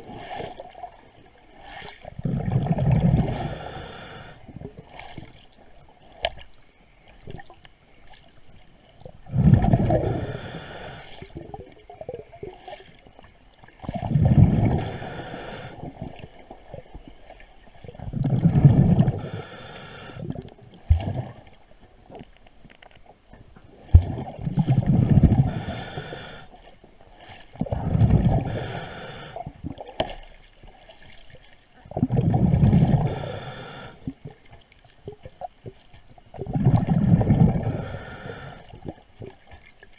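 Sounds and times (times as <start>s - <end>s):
regulator bubbles underwater: 0.0s - 39.9s.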